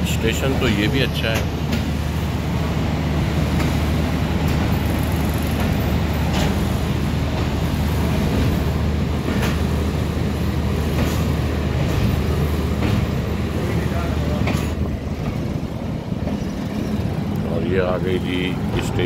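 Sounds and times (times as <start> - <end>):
train carriage rumbling: 0.0 - 19.0.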